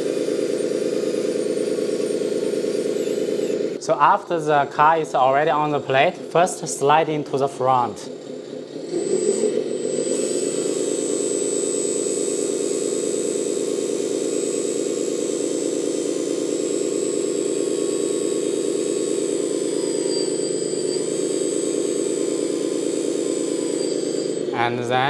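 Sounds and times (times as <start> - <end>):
hydraulic pump motor whining: 0.0 - 25.0.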